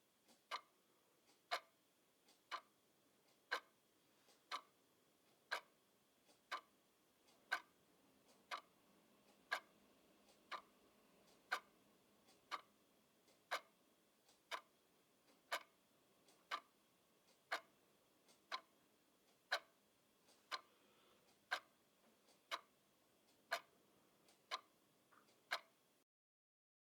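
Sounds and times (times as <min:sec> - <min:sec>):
clock ticking slowly: 0:00.0 - 0:26.0.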